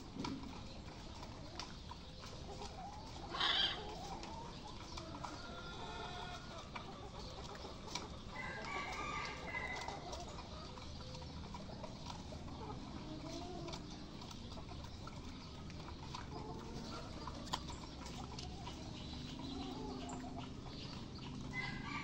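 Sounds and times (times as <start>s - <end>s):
hens clucking: 0.0s - 22.0s
roosters crowing: 2.6s - 22.0s.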